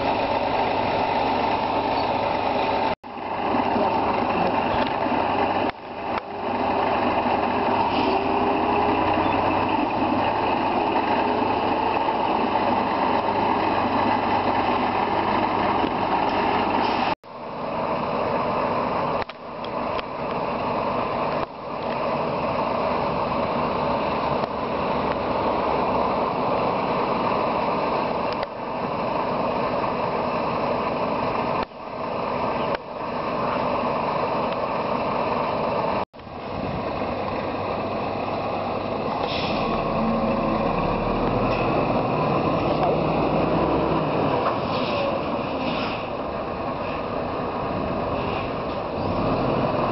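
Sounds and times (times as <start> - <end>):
heavy engine running: 0.0 - 49.9.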